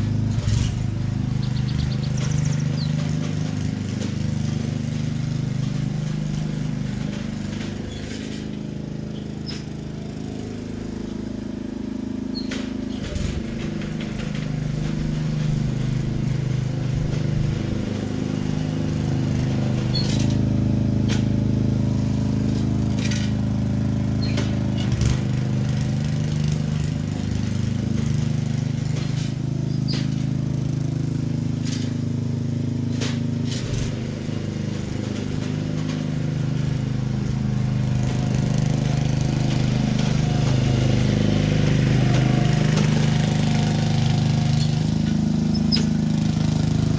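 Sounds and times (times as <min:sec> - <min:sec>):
lawn aerator engine running: 0:00.0 - 0:46.9.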